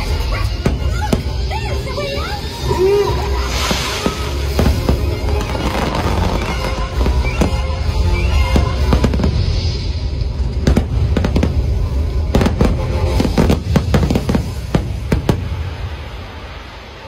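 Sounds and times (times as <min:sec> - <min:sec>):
fireworks bangs and crackles: 0:00.0 - 0:17.0
music: 0:00.0 - 0:17.0
low rumble: 0:02.4 - 0:17.0.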